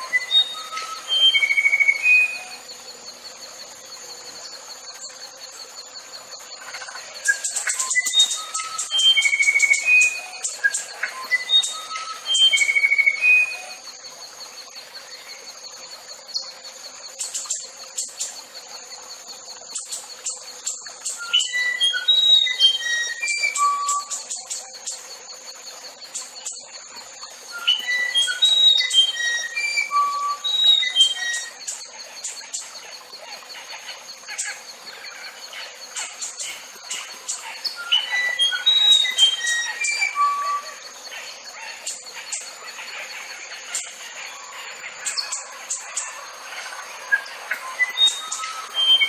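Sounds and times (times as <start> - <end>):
bird whistling song: 0.0 - 49.0.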